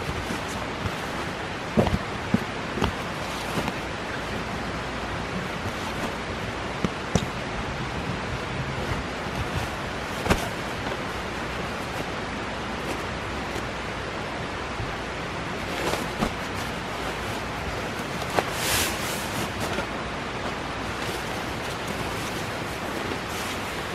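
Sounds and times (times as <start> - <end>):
camping gear clicks: 0.0 - 7.5, 8.8 - 13.8, 15.6 - 23.9
wind-like rushing noise: 0.0 - 23.9.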